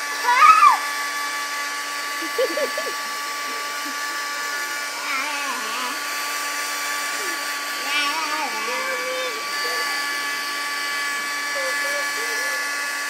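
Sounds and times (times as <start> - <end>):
hair dryer whine and air hiss: 0.0 - 13.0.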